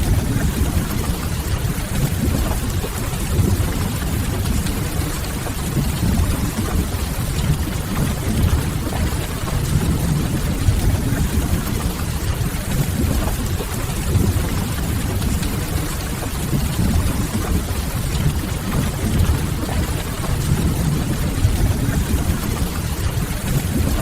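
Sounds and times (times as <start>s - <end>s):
rain on a window: 0.0s - 24.0s.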